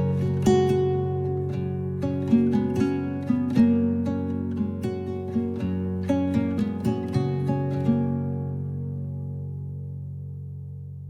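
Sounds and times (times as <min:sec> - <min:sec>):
strummed guitar chord ringing: 0:00.0 - 0:10.8.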